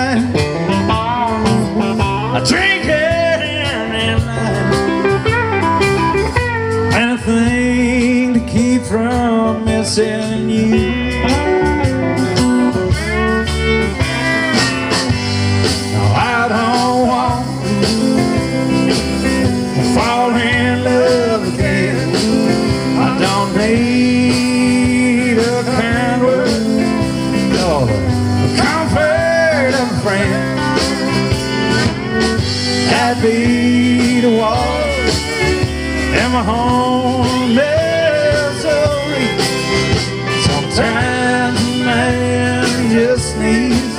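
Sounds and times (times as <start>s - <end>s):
live country band playing: 0.0s - 43.9s.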